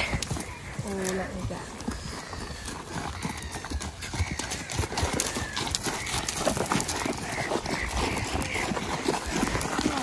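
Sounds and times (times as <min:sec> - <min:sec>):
hoofbeats on sand and shingle: 0:00.0 - 0:10.0.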